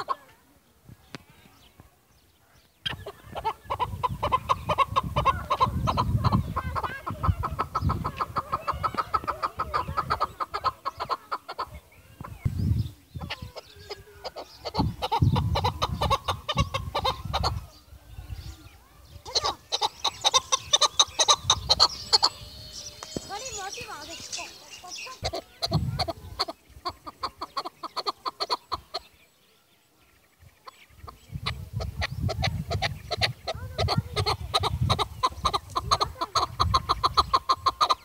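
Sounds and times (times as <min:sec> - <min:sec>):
partridge chuck calls: 0:00.0 - 0:00.3, 0:02.5 - 0:18.5, 0:19.1 - 0:29.3, 0:30.1 - 0:38.0.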